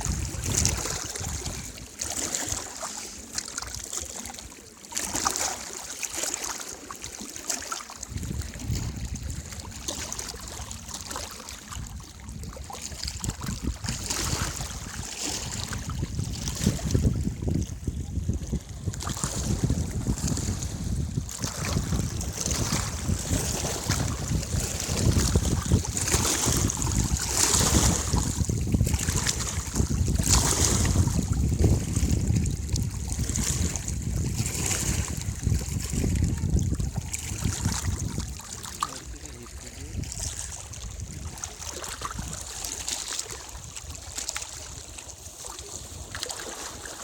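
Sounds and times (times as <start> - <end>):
wind buffeting microphone: 0.0 - 2.7, 8.0 - 46.8.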